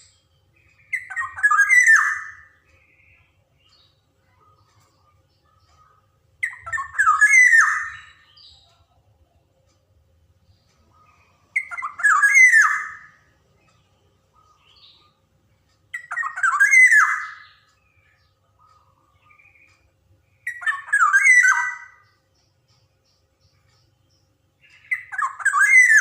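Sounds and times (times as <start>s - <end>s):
bird calling bending notes: 0.0s - 5.0s, 5.6s - 8.6s, 10.6s - 15.2s, 15.8s - 24.0s, 24.6s - 26.0s
soft bird notes: 0.0s - 26.0s.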